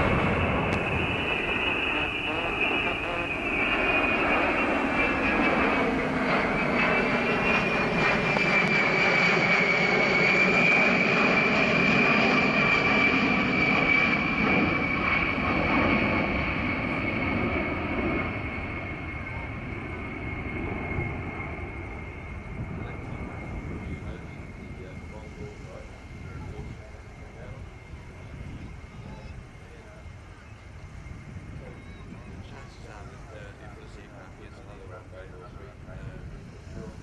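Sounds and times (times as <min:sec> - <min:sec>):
jet engines rumbling overhead: 0:00.0 - 0:37.0.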